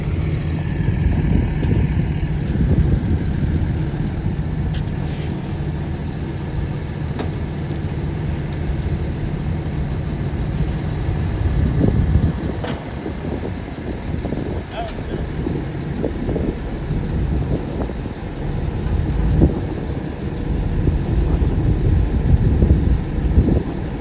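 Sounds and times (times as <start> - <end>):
diesel engine idling: 0.0 - 24.0
faint falling whine: 0.0 - 24.0.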